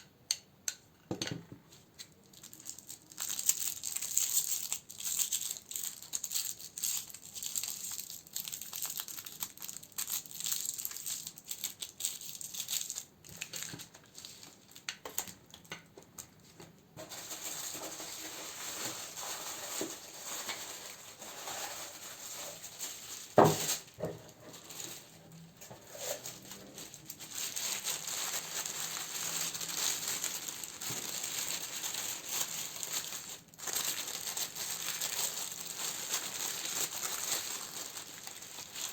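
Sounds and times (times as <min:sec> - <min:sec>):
packaging crinkling and rustling: 0:01.8 - 0:38.9.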